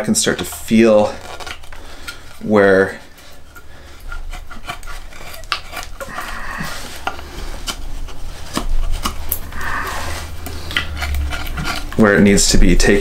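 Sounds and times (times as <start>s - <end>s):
knife carving hard wood: 0.1s - 13.0s.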